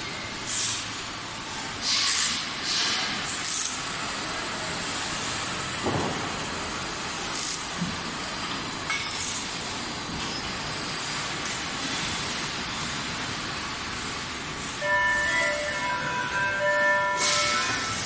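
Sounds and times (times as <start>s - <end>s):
factory machinery hiss and hum: 0.0s - 18.0s.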